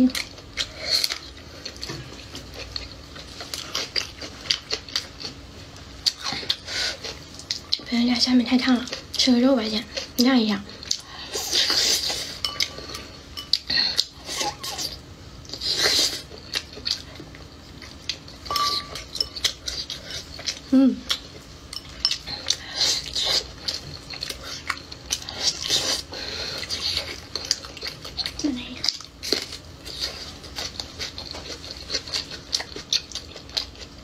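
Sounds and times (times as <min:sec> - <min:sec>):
person chewing and smacking: 0:00.1 - 0:07.9, 0:10.0 - 0:34.0.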